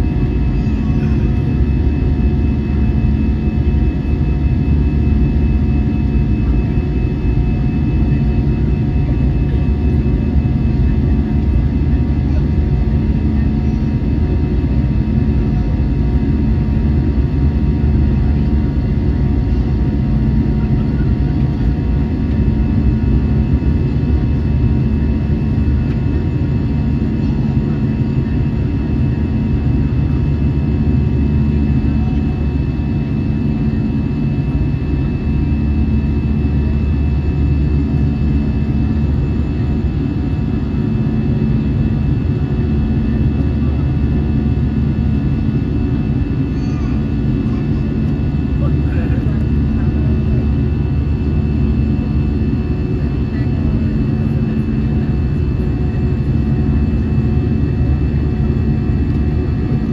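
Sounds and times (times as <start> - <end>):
airplane cabin engine drone: 0.0 - 59.9.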